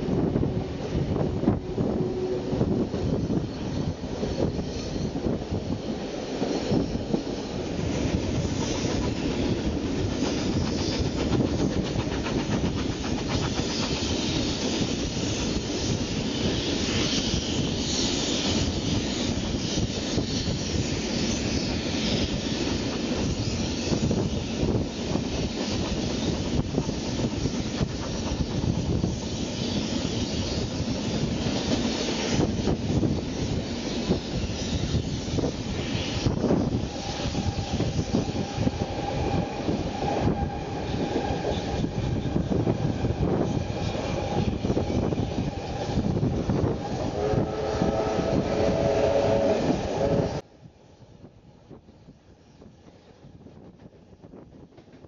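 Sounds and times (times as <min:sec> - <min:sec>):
clickety-clack of rail joints: 0:00.0 - 0:48.3, 0:52.6 - 0:55.0
train wheels rumbling on track: 0:00.0 - 0:50.5, 0:51.1 - 0:55.0.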